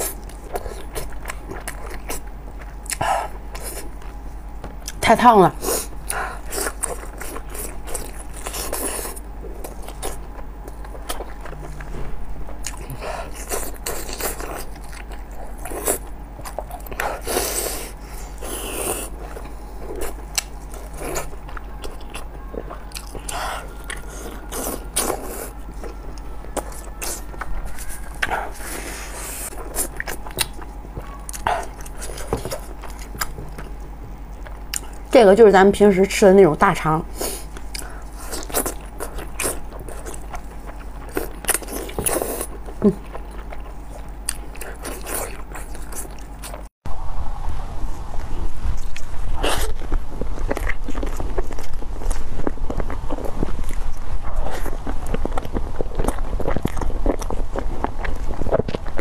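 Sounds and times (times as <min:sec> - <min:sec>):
person chewing food: 0:00.0 - 0:05.0, 0:05.6 - 0:35.1, 0:37.1 - 0:46.7, 0:48.7 - 0:59.0.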